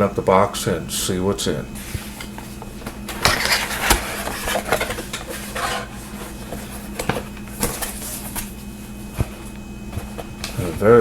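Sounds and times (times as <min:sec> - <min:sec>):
packaging scraping and rustling: 0:01.8 - 0:10.9.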